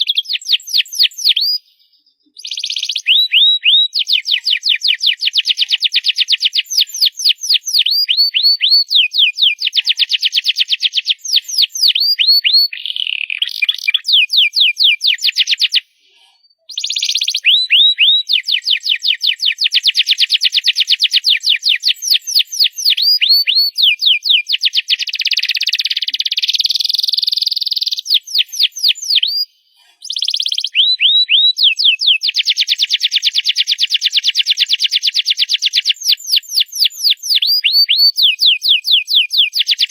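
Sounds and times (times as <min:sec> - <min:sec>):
canary singing in rapid trills: 0:00.0 - 0:15.8, 0:16.7 - 0:39.9.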